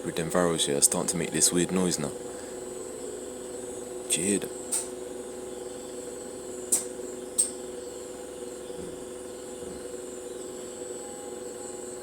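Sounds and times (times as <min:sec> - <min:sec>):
bus hum with high whine: 0:00.0 - 0:12.0.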